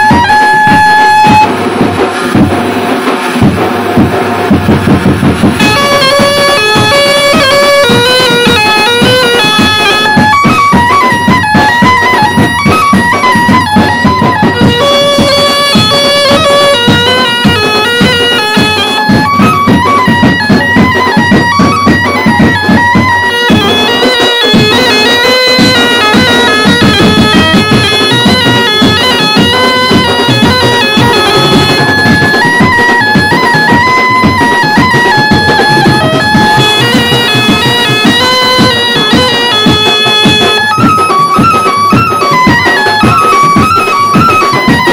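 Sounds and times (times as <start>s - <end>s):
steady drum beat: 0.0s - 44.9s
melody of held notes: 5.4s - 44.9s.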